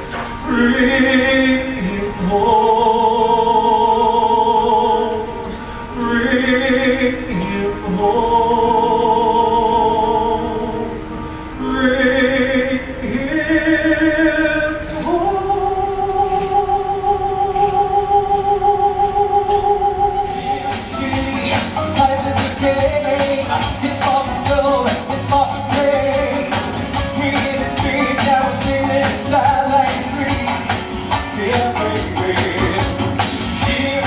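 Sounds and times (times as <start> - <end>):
operatic singing with vibrato: 0.0 - 34.0.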